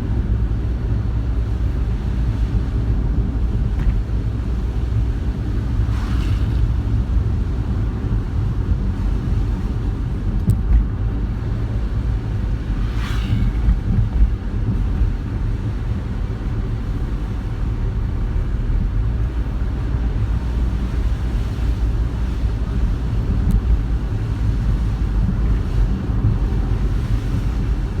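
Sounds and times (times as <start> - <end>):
car road and engine rumble: 0.0 - 28.0
wind buffeting microphone: 1.2 - 28.0.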